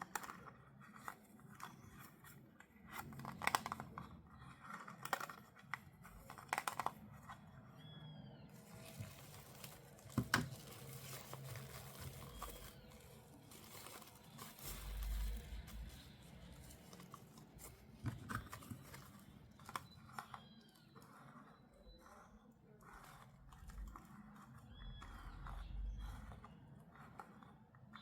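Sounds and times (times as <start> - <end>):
plastic and cardboard crinkling: 0.0 - 28.0.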